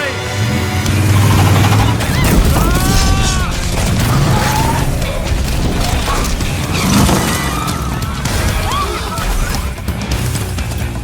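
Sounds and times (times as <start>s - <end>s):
action film music: 0.0s - 11.0s
mechanical clatter: 0.9s - 11.0s
crashes: 1.0s - 10.4s.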